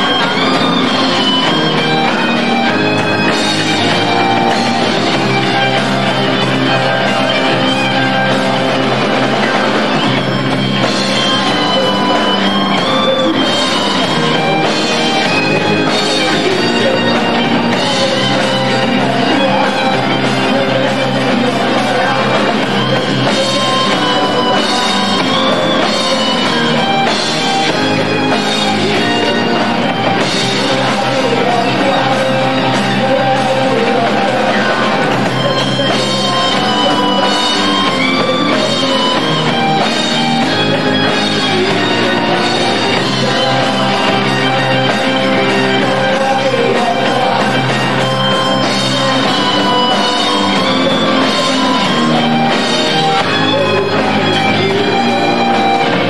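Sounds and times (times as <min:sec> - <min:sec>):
bass: 0:00.0 - 0:56.0
drum kit: 0:00.0 - 0:56.0
electric guitar: 0:00.0 - 0:56.0
keyboards: 0:00.0 - 0:56.0.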